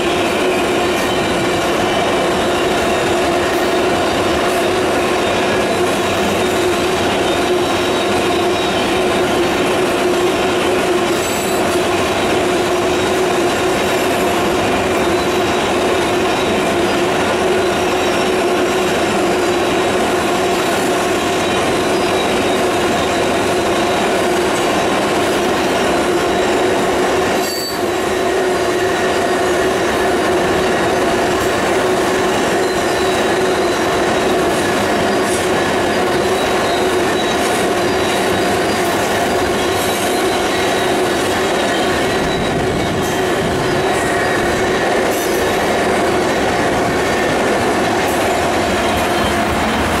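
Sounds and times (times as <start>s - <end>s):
rumble of train wheels: 0.0s - 50.0s
train wheel squeal: 0.0s - 50.0s.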